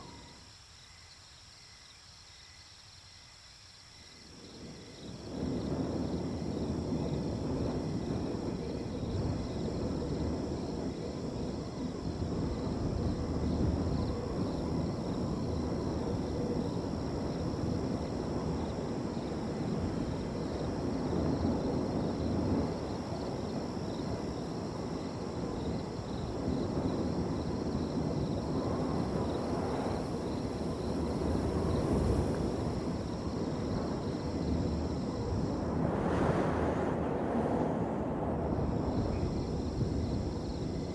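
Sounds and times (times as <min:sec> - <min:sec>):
crickets trilling: 0:00.0 - 0:40.9
wind blowing: 0:04.4 - 0:40.9.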